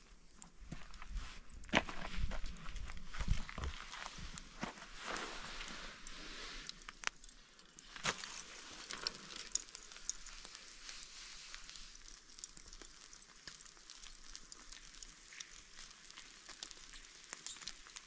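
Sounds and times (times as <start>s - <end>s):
campfire crackling and hissing: 0.0s - 18.0s.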